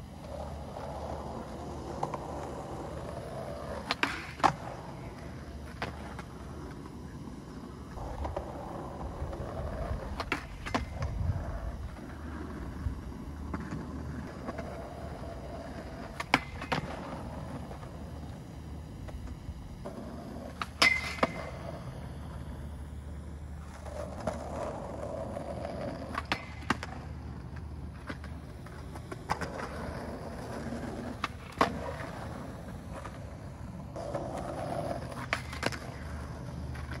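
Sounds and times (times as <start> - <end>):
skateboard clacking: 0.0 - 37.0
skateboard wheels on concrete: 0.0 - 37.0.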